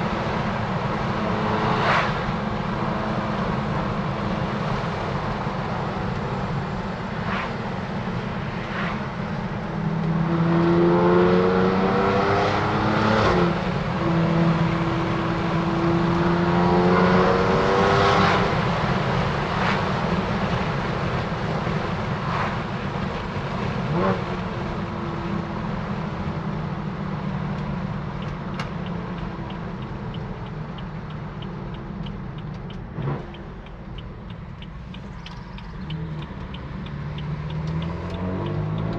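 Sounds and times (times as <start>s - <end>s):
car engine accelerating hard: 0.0s - 28.6s, 29.2s - 38.9s.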